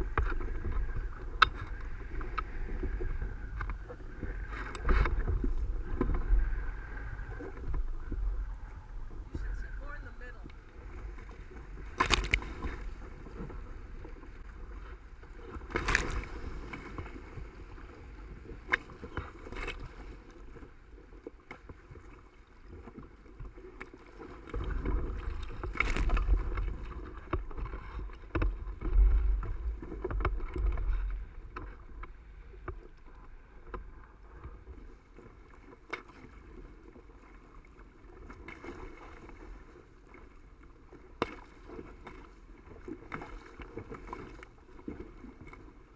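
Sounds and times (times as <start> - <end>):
rush of water and wind: 0.0 - 45.9
waves slapping against hull: 0.0 - 45.9.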